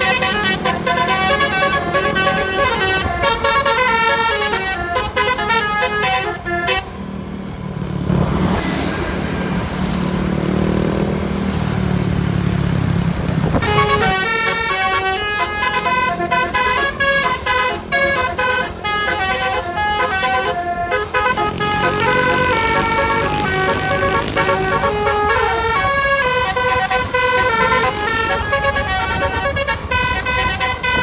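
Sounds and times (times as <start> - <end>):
musical bus horn tune: 0.0 - 7.5, 13.5 - 31.0
bus engine running: 0.0 - 31.0.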